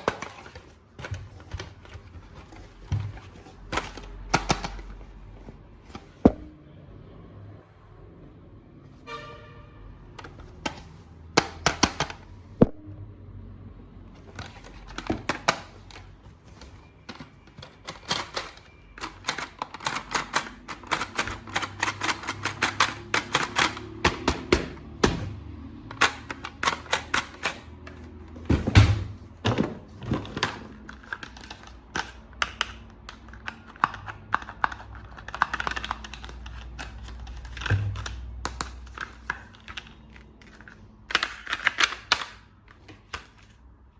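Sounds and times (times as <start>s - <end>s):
plastic parts clicking and tapping: 0.0s - 6.5s, 10.1s - 12.8s, 14.1s - 43.8s.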